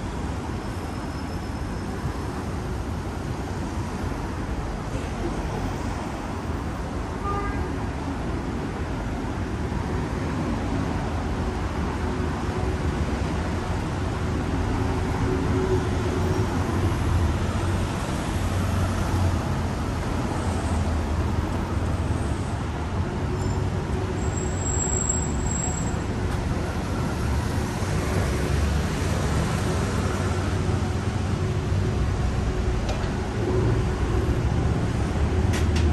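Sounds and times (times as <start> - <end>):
road traffic rumble: 0.0 - 35.9.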